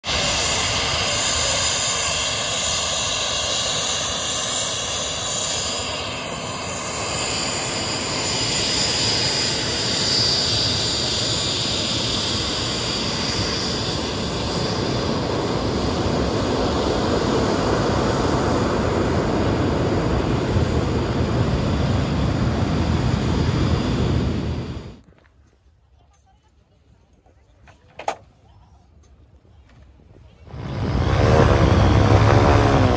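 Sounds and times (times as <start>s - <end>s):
jet engine whining and rushing: 0.0s - 25.0s, 30.4s - 32.9s.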